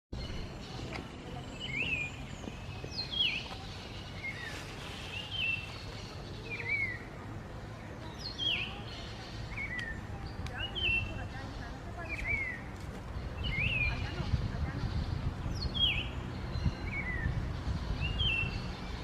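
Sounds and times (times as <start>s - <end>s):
low background noise: 0.2s - 19.0s.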